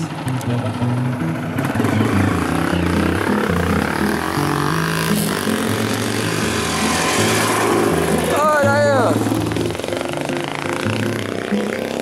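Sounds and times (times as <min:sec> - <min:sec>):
dirt bike engines passing: 0:00.0 - 0:12.0.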